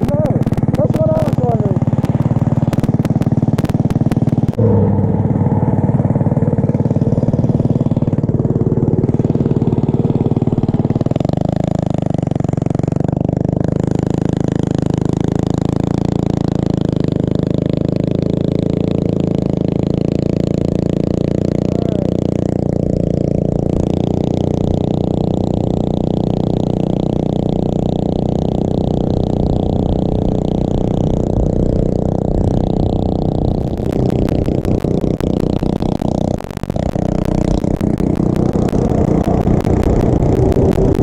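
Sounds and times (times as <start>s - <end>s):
mini bike engine running: 0.0s - 41.0s.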